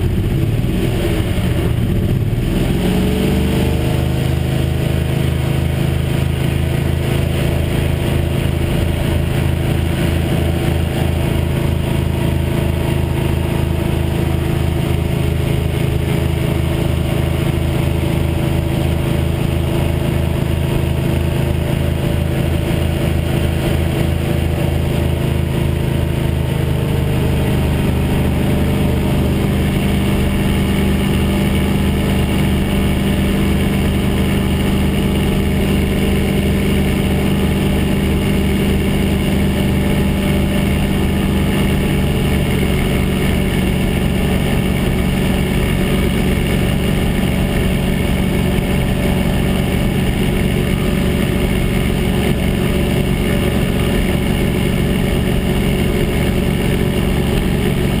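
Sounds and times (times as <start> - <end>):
hovercraft engine droning: 0.0 - 58.0.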